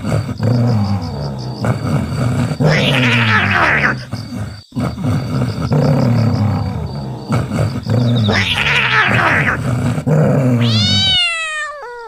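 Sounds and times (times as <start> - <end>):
animal growling and roaring: 0.0 - 11.3.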